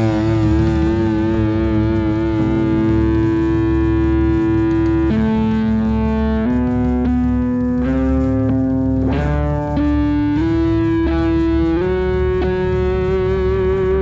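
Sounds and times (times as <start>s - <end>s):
fuzz electric guitar notes: 0.0s - 14.0s.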